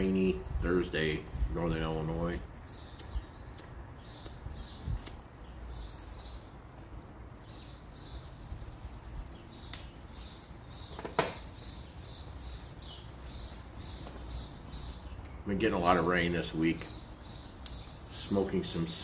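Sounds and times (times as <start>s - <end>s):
bird chirping: 0.0s - 6.6s, 7.2s - 19.0s.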